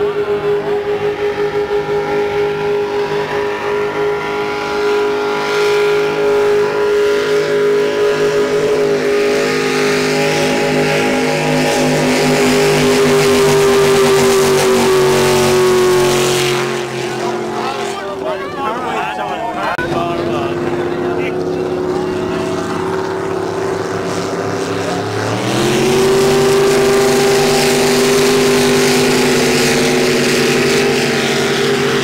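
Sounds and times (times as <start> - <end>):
speedboat engines droning: 0.0 - 32.0.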